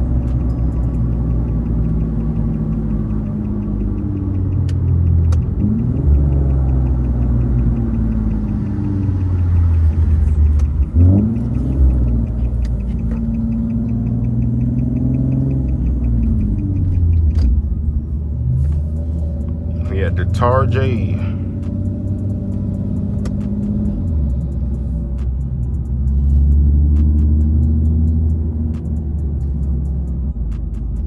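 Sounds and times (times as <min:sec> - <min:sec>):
car engine with loud exhaust: 0:00.0 - 0:31.0.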